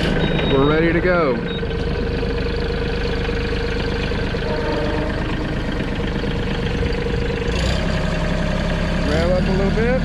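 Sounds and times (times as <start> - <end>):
diesel tractor engine idling: 0.0 - 10.0.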